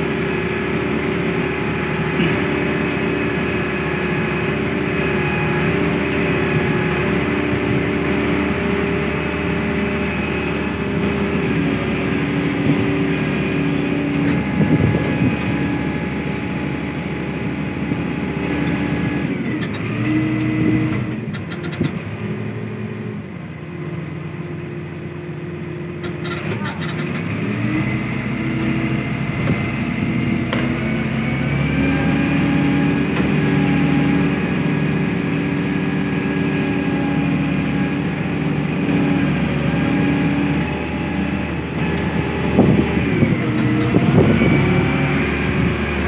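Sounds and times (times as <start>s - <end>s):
crane engine and hydraulic whine: 0.0s - 46.0s.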